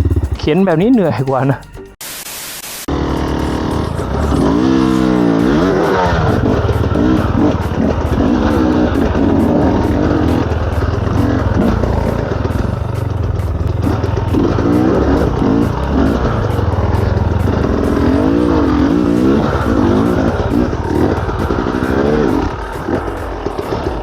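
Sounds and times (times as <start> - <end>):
dirt bike engine revving: 0.0 - 0.6, 2.9 - 24.0.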